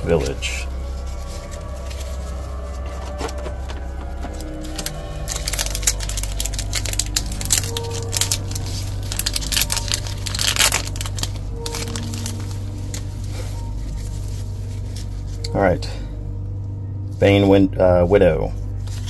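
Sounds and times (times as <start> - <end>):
wrapper crinkling and tearing: 0.0 - 15.6.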